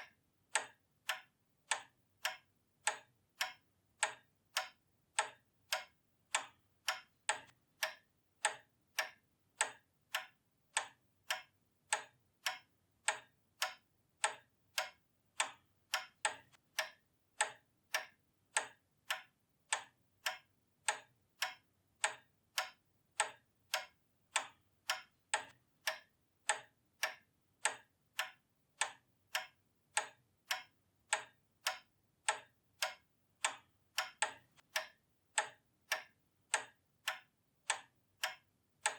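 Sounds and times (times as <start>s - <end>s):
pendulum clock ticking: 0.0s - 38.9s.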